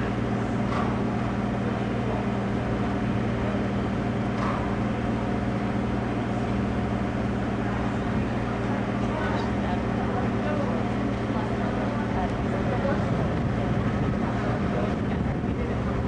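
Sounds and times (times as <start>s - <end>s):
noisy background: 0.0s - 16.0s
steady low hum: 0.0s - 16.0s.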